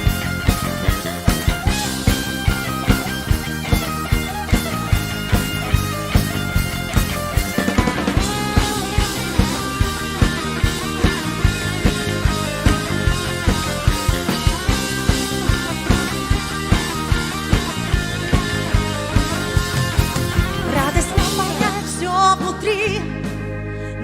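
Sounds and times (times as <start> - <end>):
drum kit beat: 0.0 - 22.9
bass guitar: 0.0 - 24.0
electric guitar: 0.0 - 24.0.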